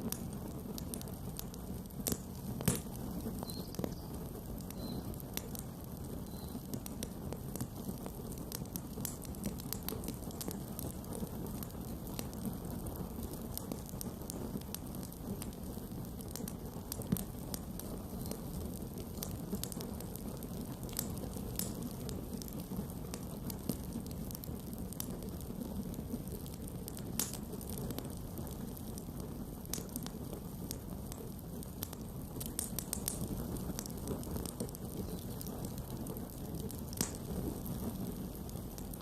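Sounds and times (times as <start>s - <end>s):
fire crackling and popping: 0.0s - 39.0s.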